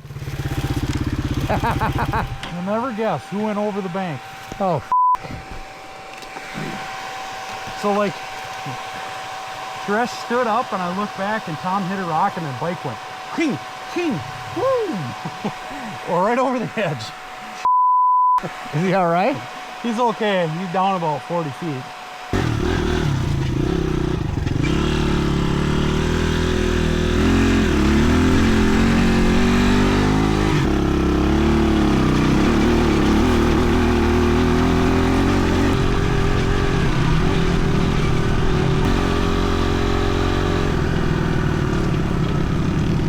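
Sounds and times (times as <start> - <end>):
dirt bike engine revving: 0.0 - 4.9, 6.4 - 17.7, 18.4 - 43.0.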